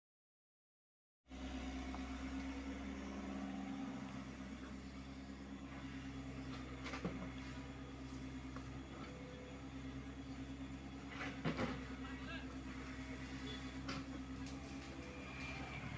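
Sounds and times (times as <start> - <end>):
excavator diesel engine running: 1.3 - 15.9.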